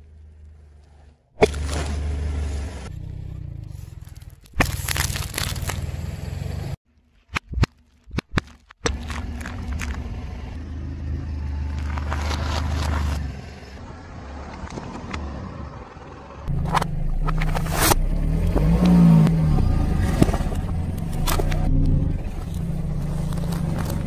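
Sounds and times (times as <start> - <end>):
car tyre crushing objects: 0.0 - 10.6, 11.6 - 13.2, 16.5 - 24.0.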